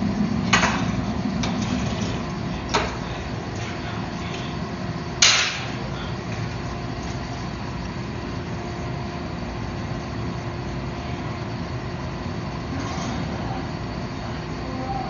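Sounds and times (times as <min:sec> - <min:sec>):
faint constant tones: 0:00.0 - 0:15.0
machinery hum and hiss: 0:00.0 - 0:15.0.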